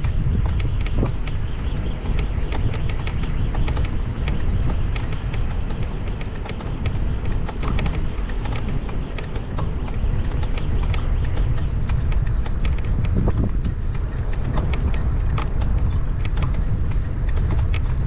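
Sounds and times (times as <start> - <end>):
bike clicks and rattles: 0.0 - 18.0
wind rumble on microphone: 0.0 - 18.0.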